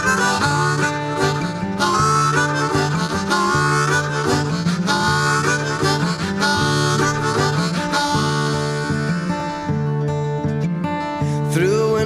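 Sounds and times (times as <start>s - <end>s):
blues-rock band with harmonica: 0.0s - 11.4s.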